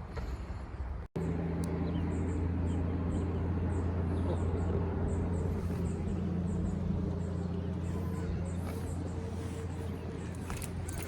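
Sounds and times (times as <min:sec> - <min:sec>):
vehicle hum: 0:00.8 - 0:11.0.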